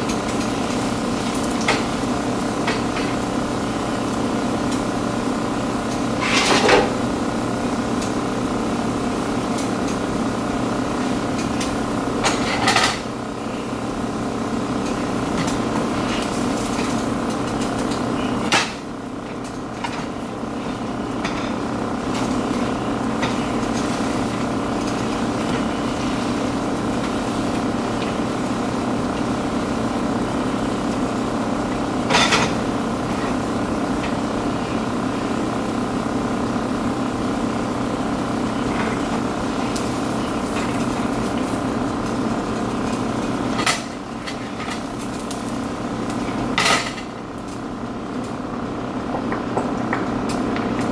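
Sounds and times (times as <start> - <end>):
mechanical hum: 0.0 - 50.9.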